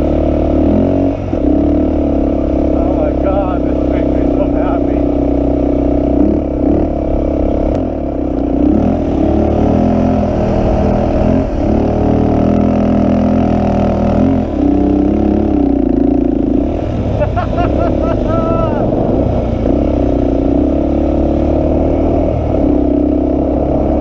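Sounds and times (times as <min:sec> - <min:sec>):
atv engine revving: 0:00.0 - 0:24.0.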